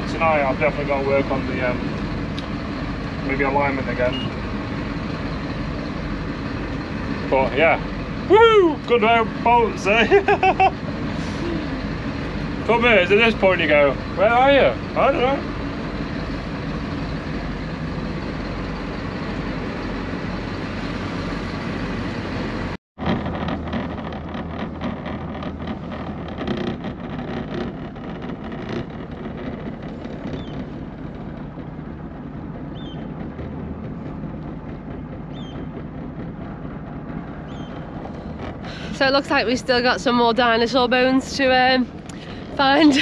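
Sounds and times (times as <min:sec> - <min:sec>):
boat diesel engine drone: 0:00.0 - 0:43.0
water noise: 0:00.0 - 0:43.0
wind noise: 0:00.0 - 0:43.0.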